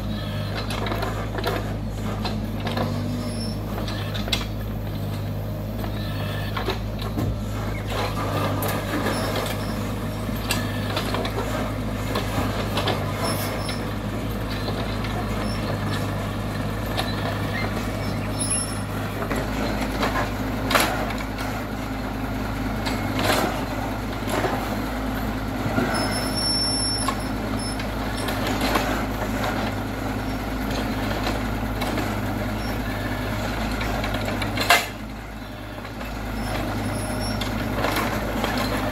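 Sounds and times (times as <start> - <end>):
diesel engine drone: 0.0 - 38.9.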